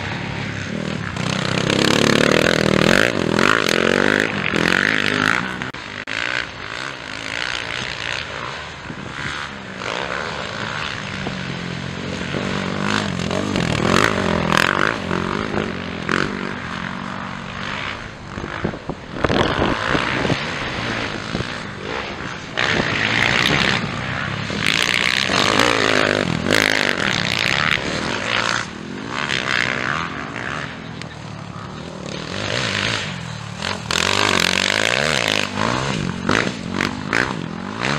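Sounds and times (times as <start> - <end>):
dirt bike engines revving: 0.0 - 37.9.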